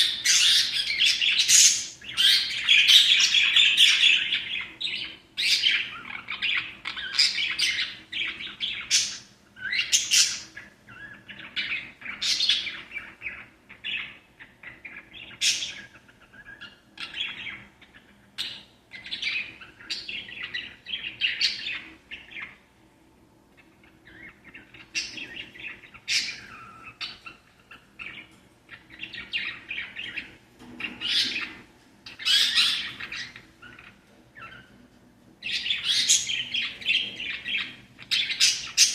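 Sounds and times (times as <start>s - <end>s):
parrots chirping and warbling: 0.0s - 22.7s, 23.5s - 38.9s.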